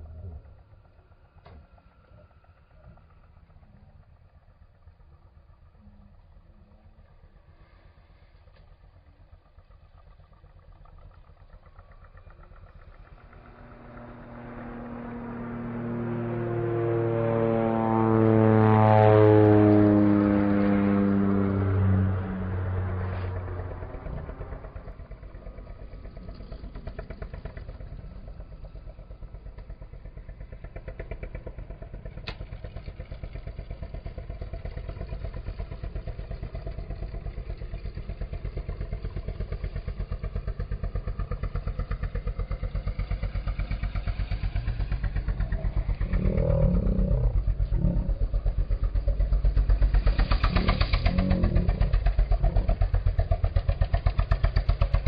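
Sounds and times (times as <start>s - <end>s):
propeller aircraft engine droning: 0.0s - 55.0s.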